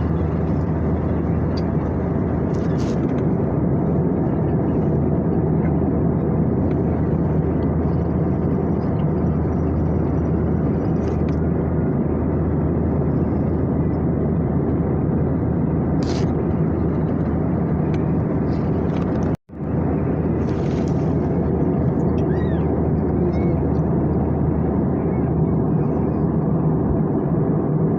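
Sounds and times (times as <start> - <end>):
airliner cabin drone: 0.0 - 27.9.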